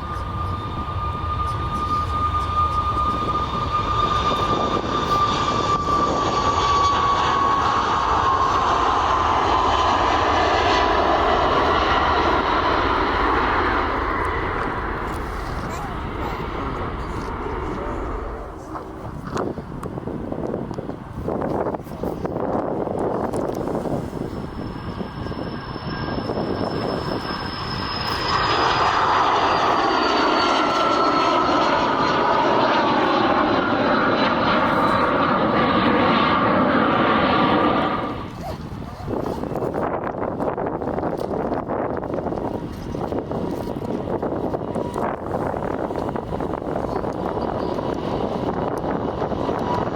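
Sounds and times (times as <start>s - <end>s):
airliner engines passing: 0.0s - 49.9s.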